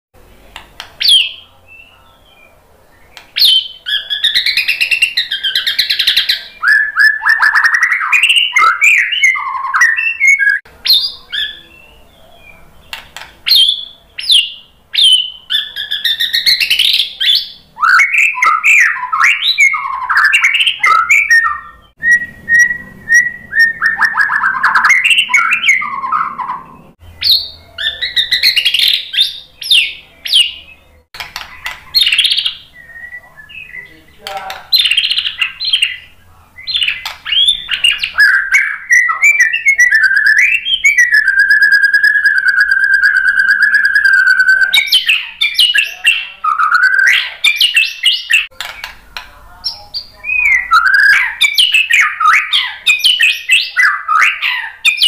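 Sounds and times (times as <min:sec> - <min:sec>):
bird singing whistles and trills: 0:01.0 - 0:34.0, 0:34.7 - 0:48.9, 0:49.7 - 0:55.0.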